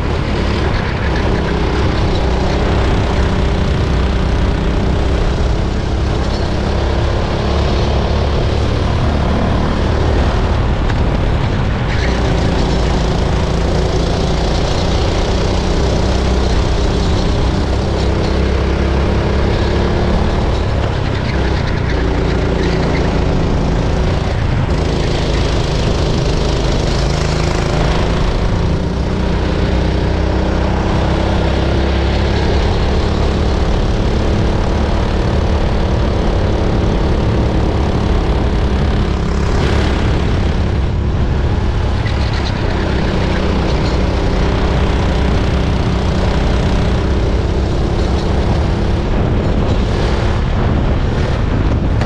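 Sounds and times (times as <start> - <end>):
go-kart engine racing: 0.0 - 52.0.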